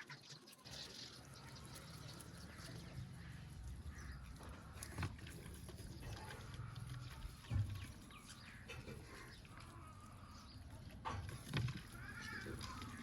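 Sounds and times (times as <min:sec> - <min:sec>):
faint animal calls: 0:01.3 - 0:13.0.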